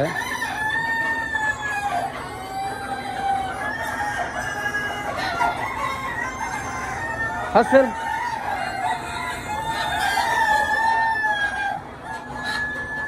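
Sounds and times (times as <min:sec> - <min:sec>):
hens clucking: 0:00.0 - 0:13.0
roosters crowing: 0:00.0 - 0:13.0.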